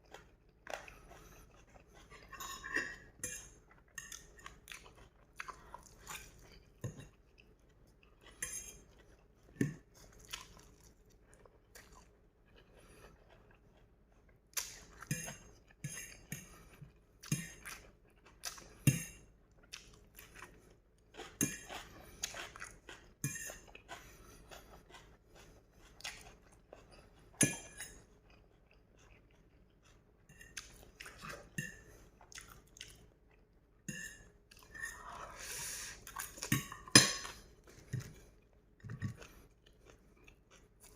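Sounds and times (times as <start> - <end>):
person chewing noodles: 0.0 - 40.9.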